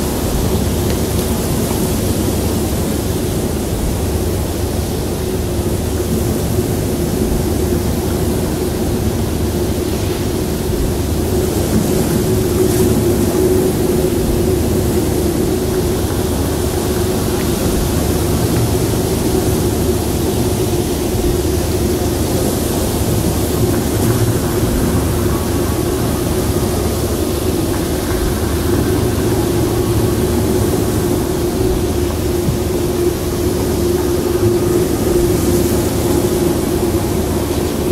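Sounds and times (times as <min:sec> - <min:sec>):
ambient drone: 0:00.0 - 0:37.9.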